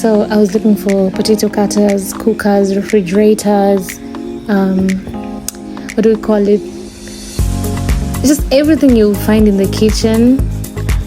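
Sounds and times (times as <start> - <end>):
background guitar music: 0.0 - 11.0.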